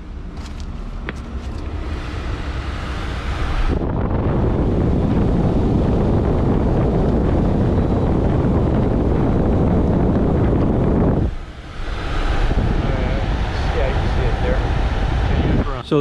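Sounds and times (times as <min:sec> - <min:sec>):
dehumidifier fan airflow rushing: 0:00.0 - 0:16.0.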